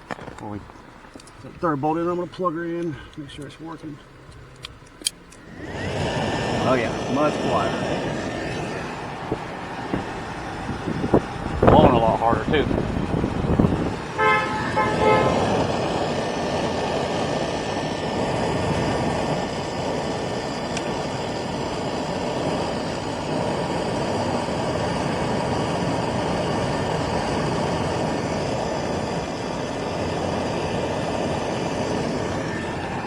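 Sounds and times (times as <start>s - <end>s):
blower fan rushing air: 0.0s - 33.0s.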